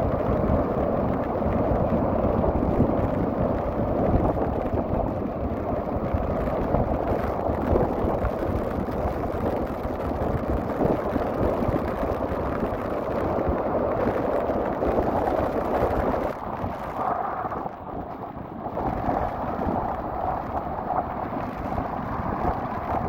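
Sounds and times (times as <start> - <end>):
storm waves breaking: 0.0 - 23.0
wind buffeting microphone: 0.0 - 23.0.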